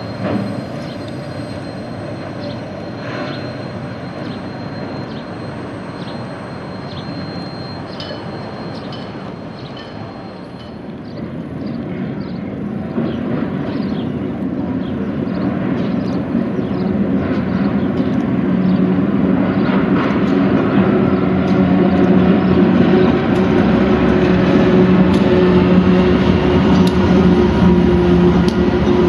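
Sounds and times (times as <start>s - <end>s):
diesel locomotive engine drone: 0.0s - 29.0s.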